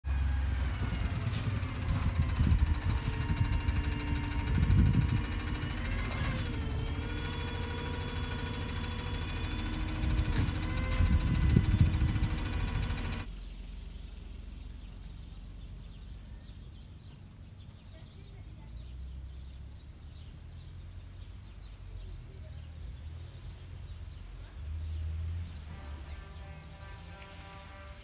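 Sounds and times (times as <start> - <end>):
street rumble: 0.0 - 28.0
small birds chirping: 0.5 - 28.0.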